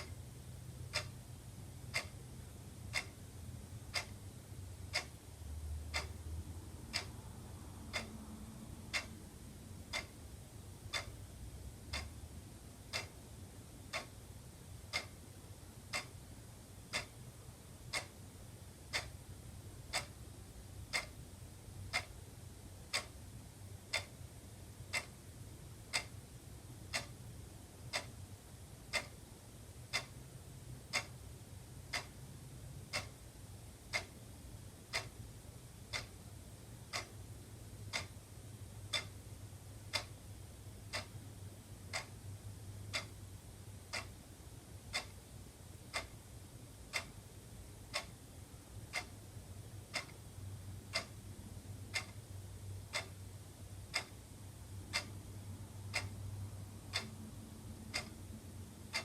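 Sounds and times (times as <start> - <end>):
faint low hum: 0.0 - 59.0
wall clock ticking: 0.0 - 59.0.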